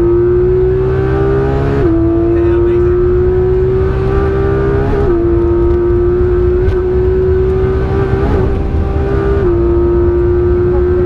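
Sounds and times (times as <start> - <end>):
car engine at high revs: 0.0 - 11.0
road and wind noise: 0.0 - 11.0.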